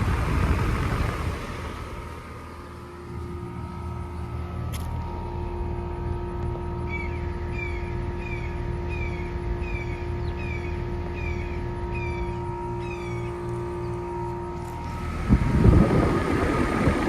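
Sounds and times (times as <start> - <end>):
condenser fan rumble: 0.0 - 17.0
heat pump compressor hum: 0.0 - 17.0.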